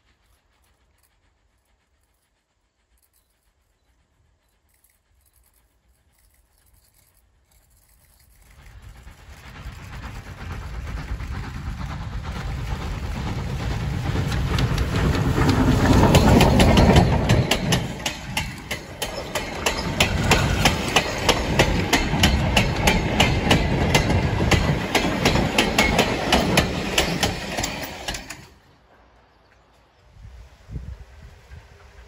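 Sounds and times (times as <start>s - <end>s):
steam locomotive running: 0.0s - 32.0s
wheels clicking over rails: 2.9s - 28.6s.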